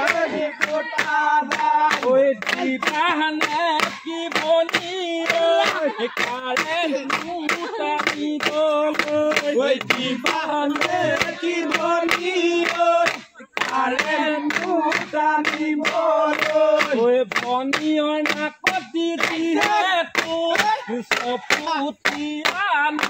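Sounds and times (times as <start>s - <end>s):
group of people singing: 0.0s - 23.0s.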